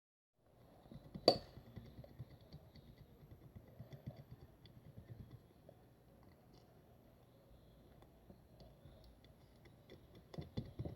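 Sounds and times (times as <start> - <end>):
soft irregular taps and clicks: 0.8 - 6.8, 7.9 - 10.9.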